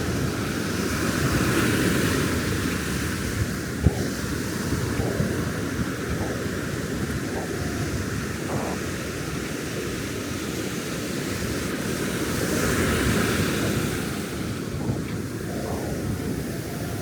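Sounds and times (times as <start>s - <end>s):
ocean surf on sandy beach: 0.0s - 17.0s.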